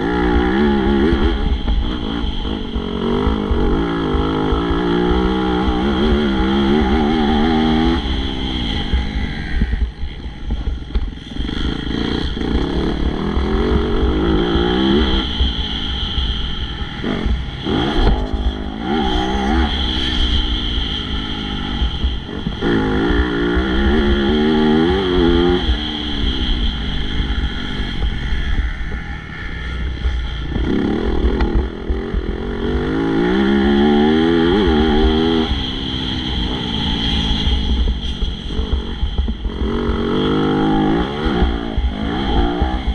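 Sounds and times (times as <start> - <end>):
motocross bike engine revving: 0.0 - 42.9
steady low rumble: 0.0 - 42.9.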